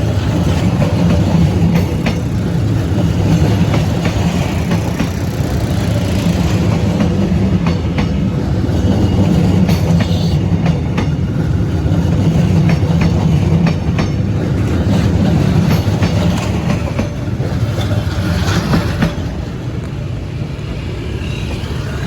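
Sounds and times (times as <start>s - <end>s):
train wheels clattering over rail joints: 0.0s - 20.0s.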